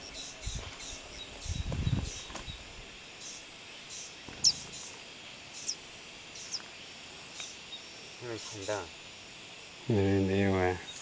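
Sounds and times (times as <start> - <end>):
bird chirps: 0.0 - 8.9
insects buzzing: 0.0 - 11.0.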